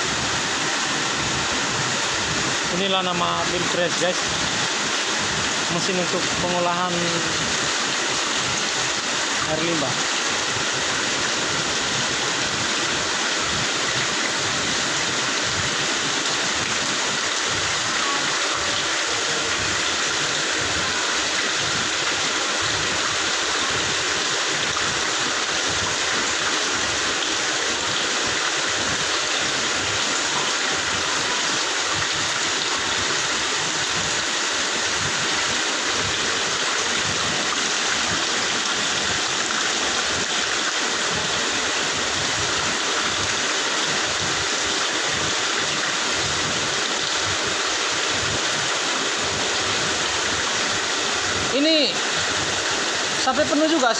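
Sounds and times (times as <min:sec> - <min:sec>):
water rushing and splashing: 0:00.0 - 0:53.9.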